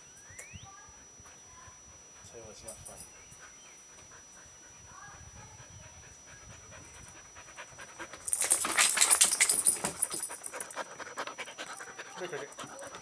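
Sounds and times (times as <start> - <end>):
dog panting: 1.0 - 13.0.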